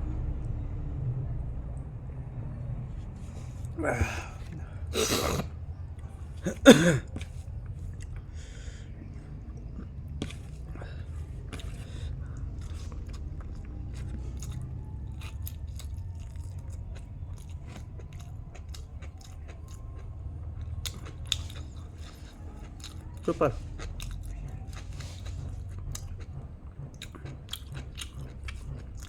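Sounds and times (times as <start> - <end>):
person chewing wetly: 3.2 - 29.0.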